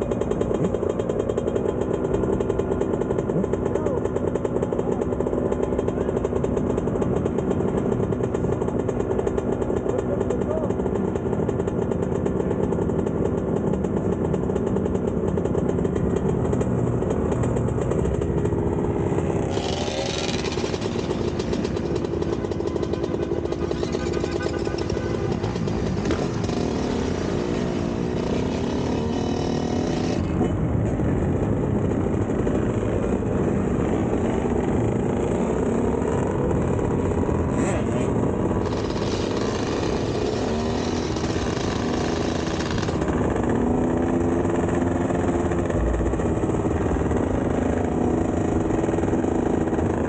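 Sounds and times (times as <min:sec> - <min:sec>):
dirt bike engines idling: 0:00.0 - 0:50.0.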